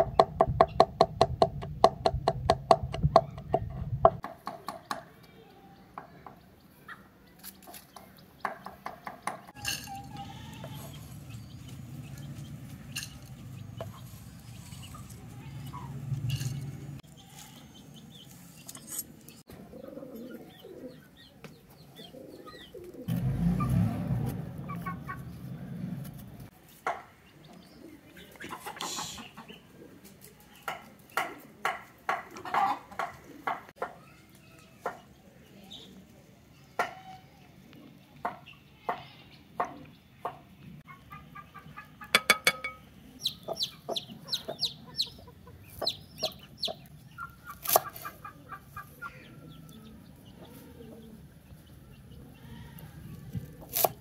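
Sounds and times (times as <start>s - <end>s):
pigeons and fowl calling: 6.7s - 34.2s, 36.8s - 54.0s.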